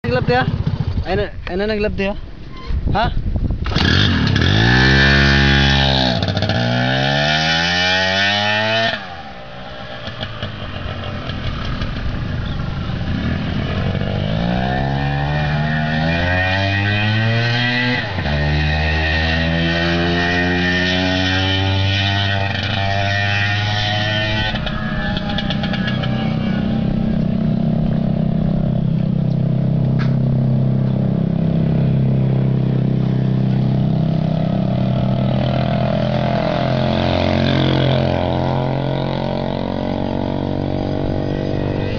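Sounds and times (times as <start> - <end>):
moped engine revving: 0.0 - 1.3, 3.6 - 41.9.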